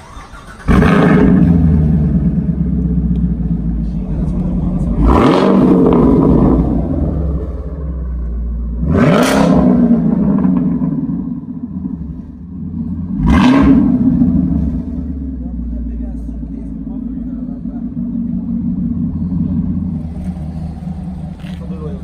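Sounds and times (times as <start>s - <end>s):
low rumbling engine idle: 0.0s - 8.9s, 9.7s - 22.0s
car engine revving: 0.0s - 22.0s.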